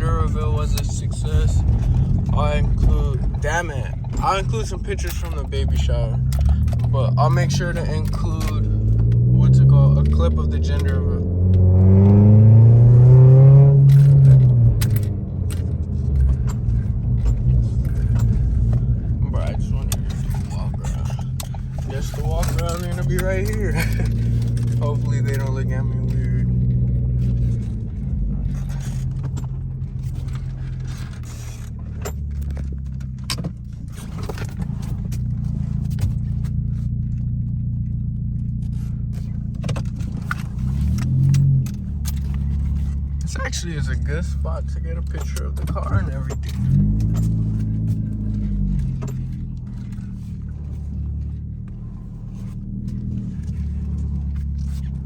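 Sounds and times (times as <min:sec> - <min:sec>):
irregular clicks and rattles: 0:00.0 - 0:11.7, 0:13.8 - 0:55.0
car exhaust rumble: 0:00.0 - 0:55.0.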